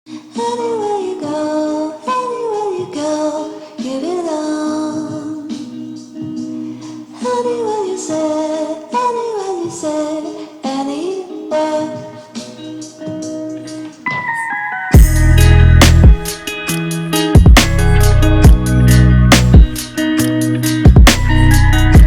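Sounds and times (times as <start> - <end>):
song with sung melody: 0.1 - 22.0.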